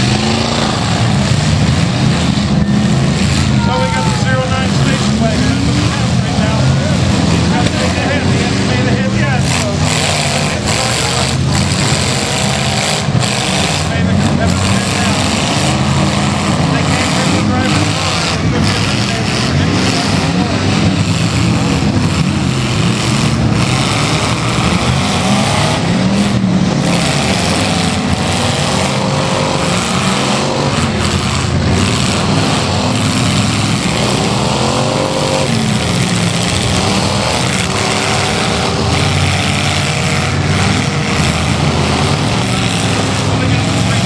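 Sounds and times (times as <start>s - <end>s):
car engines revving hard: 0.0s - 44.0s.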